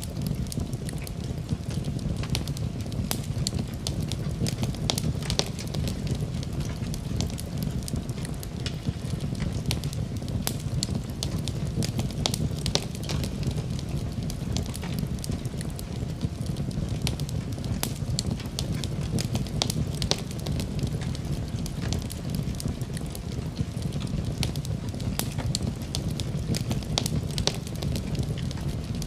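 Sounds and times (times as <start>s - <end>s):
fire crackling and popping: 0.0s - 29.0s
low rumble of flames: 0.0s - 29.0s.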